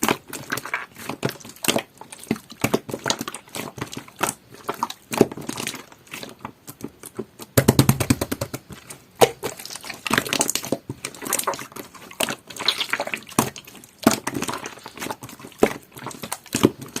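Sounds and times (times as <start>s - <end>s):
slime squished by hand: 0.0s - 17.0s.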